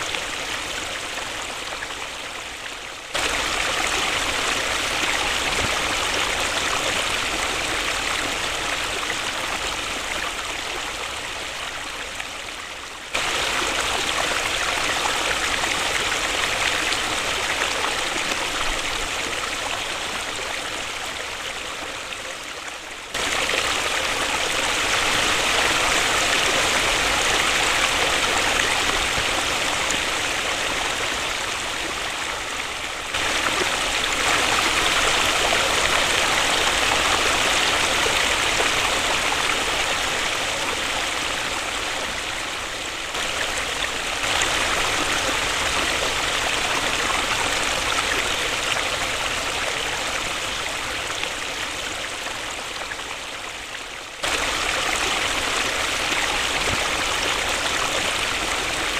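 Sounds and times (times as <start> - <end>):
waterfall rushing: 3.1 - 12.0, 13.1 - 21.4, 23.1 - 53.0, 54.2 - 58.9.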